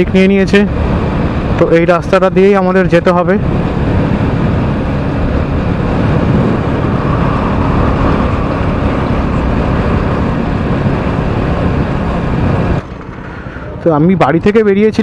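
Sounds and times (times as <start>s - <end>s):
motorcycle engine hum: 0.0s - 14.9s
rushing road and air noise: 0.0s - 15.0s.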